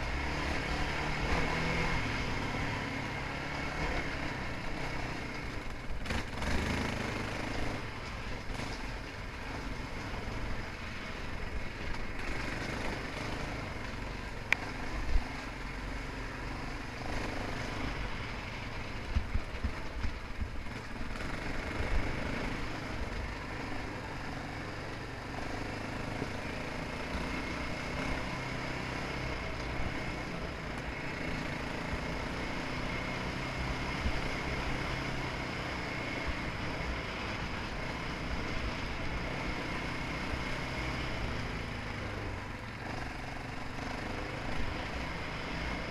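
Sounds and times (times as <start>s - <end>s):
dirt bike engine running: 0.0s - 45.9s.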